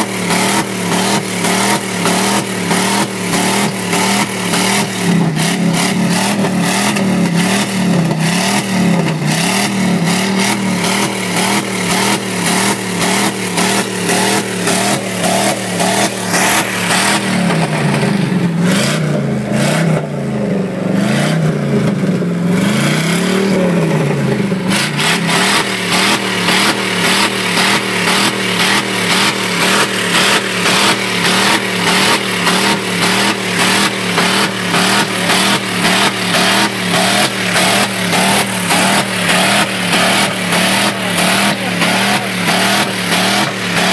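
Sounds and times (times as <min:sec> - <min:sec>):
engine bouncing on rev limiter: 0:00.0 - 0:43.9.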